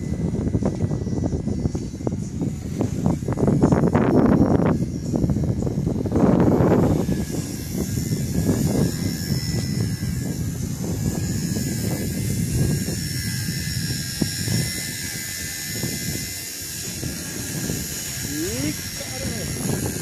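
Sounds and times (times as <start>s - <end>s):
toy helicopter motor whine: 0.0s - 20.0s
wind buffeting microphone: 0.0s - 20.0s.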